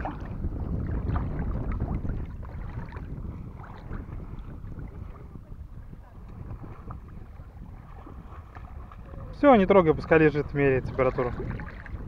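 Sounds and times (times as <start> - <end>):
water sloshing and splashing: 0.0 - 12.0
wind rumbling on microphone: 0.0 - 12.0.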